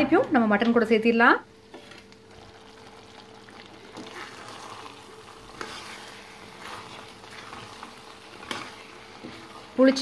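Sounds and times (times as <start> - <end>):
hot oil sizzling: 1.5 - 10.0.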